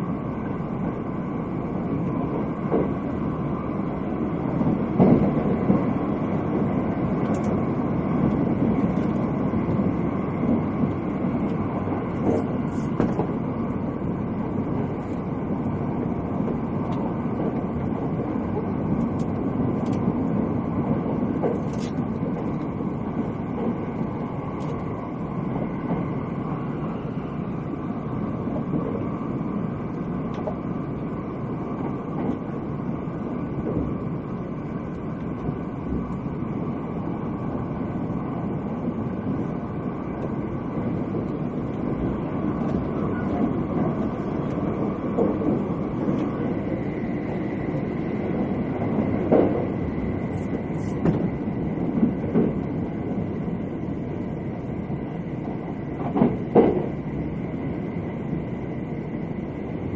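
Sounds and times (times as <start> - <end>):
rumble of wheels on rails: 0.0 - 59.9.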